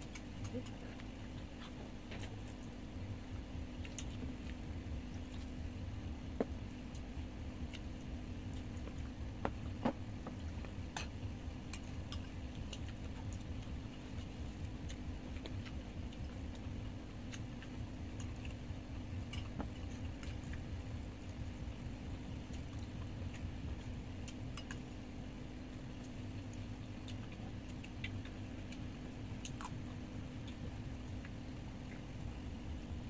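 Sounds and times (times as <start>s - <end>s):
low hum: 0.0s - 33.0s
soft chewing: 0.0s - 33.0s.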